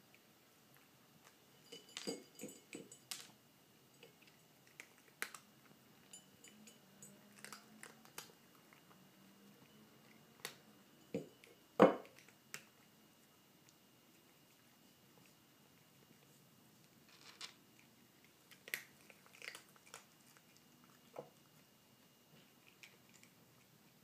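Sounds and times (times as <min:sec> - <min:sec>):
kitten crunching dry food: 0:00.1 - 0:24.0.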